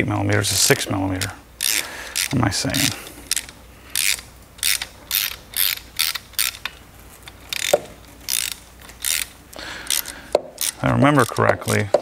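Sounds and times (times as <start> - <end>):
ratchet screwdriver clicking: 1.2 - 11.8.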